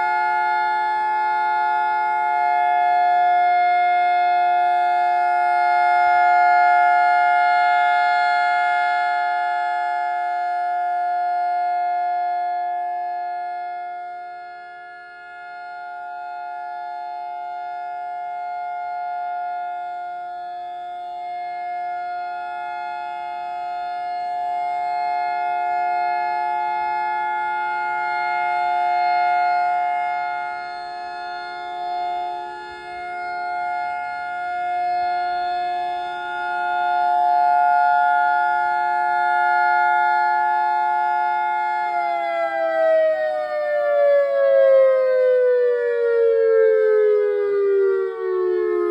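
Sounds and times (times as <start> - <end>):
warning siren wailing: 0.0 - 48.9.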